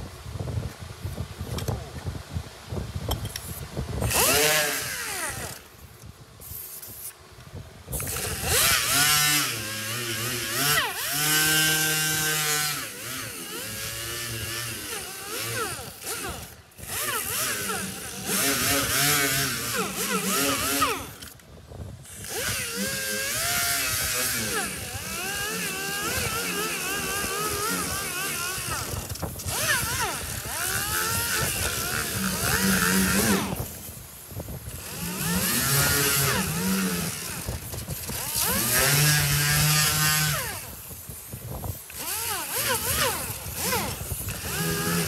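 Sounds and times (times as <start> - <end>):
pneumatic sander whining: 3.1 - 7.2, 7.9 - 45.0.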